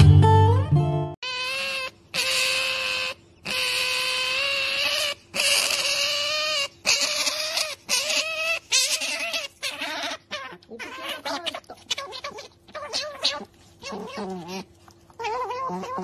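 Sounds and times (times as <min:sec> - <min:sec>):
otter squealing: 0:01.2 - 0:16.0.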